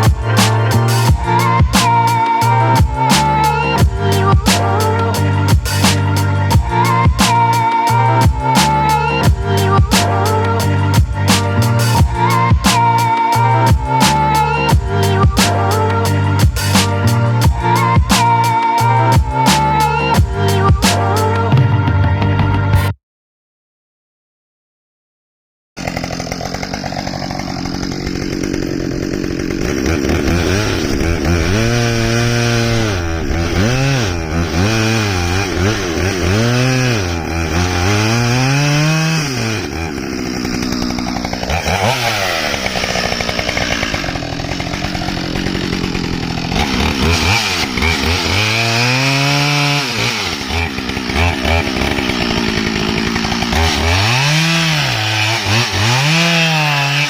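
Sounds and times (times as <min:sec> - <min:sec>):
chainsaw revving: 0:00.0 - 0:21.4, 0:25.8 - 0:57.0.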